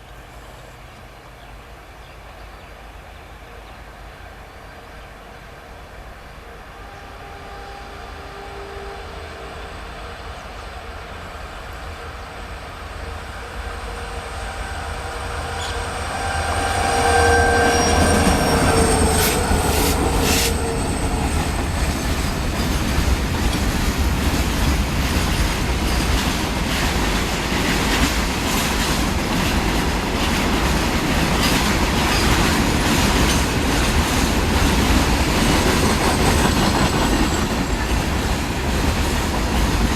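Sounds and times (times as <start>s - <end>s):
express train passing: 0.0s - 39.9s.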